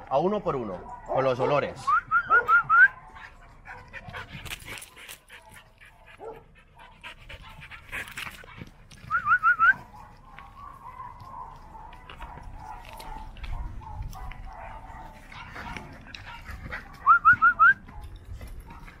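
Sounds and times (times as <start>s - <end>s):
dogs panting and sniffing: 0.0s - 19.0s
paws shuffling on dirt: 0.0s - 19.0s.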